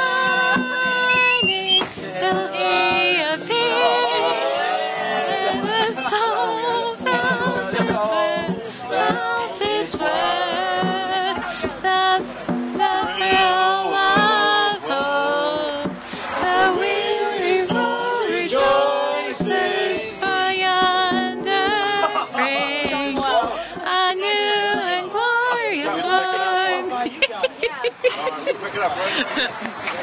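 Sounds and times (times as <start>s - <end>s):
young voices singing unaccompanied: 0.0s - 27.0s.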